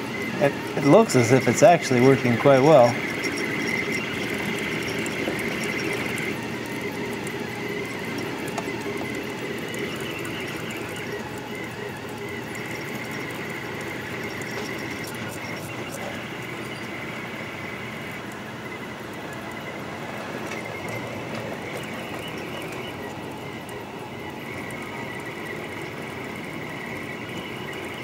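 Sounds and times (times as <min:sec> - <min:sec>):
three d printer motors whining: 0:00.0 - 0:28.0.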